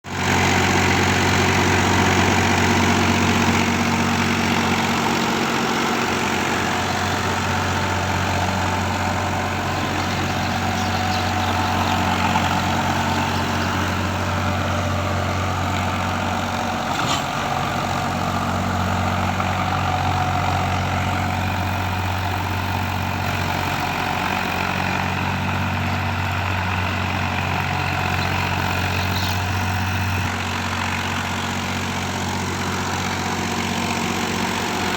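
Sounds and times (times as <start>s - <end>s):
tractor engine humming: 0.1s - 34.9s.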